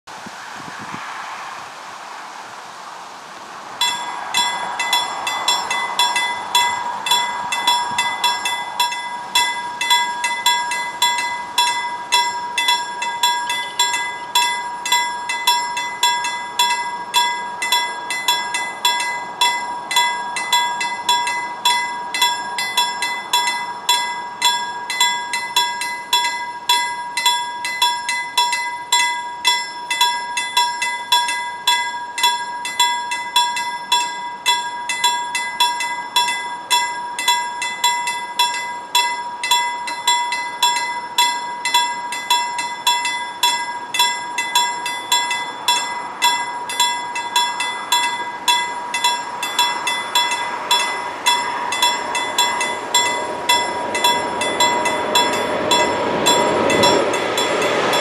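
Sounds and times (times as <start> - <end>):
level crossing warning bell: 3.8 - 58.0.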